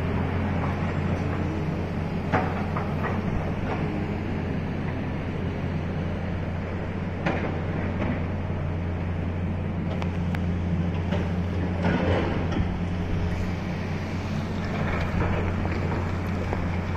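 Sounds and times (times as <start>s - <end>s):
road noise: 0.0s - 16.9s
vehicle engine humming: 0.0s - 16.9s.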